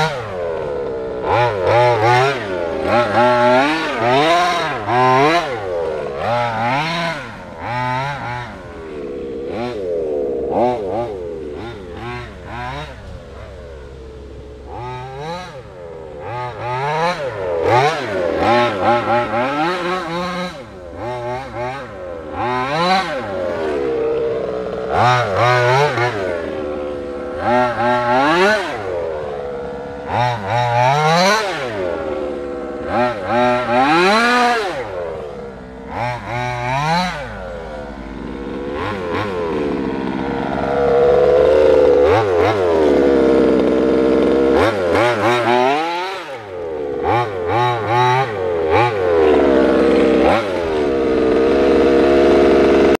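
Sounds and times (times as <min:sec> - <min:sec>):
small two-stroke engine revving: 0:00.0 - 0:53.0.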